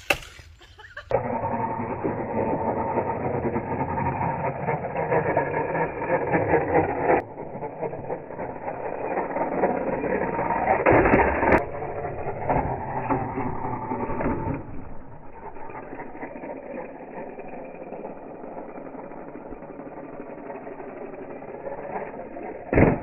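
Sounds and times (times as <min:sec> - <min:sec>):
tyres rolling on concrete: 0:00.0 - 0:23.0.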